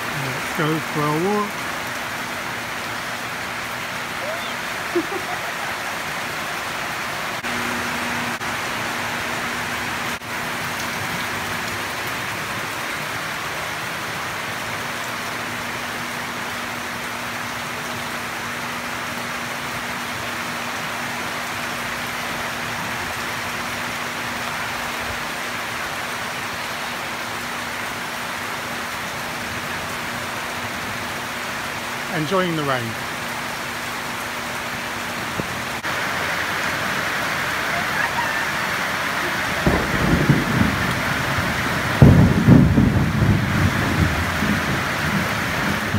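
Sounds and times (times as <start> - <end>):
rain on leaves and roof: 0.0 - 45.9.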